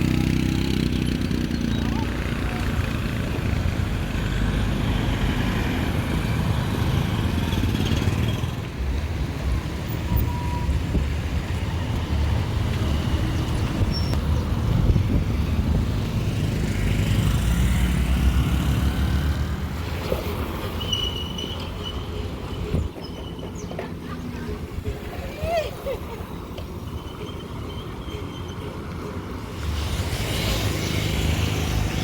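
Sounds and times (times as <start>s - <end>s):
low traffic rumble: 0.0s - 32.0s.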